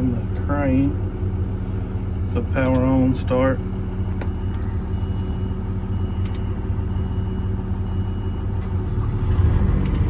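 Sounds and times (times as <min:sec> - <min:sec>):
engine rumbling: 0:00.0 - 0:10.0.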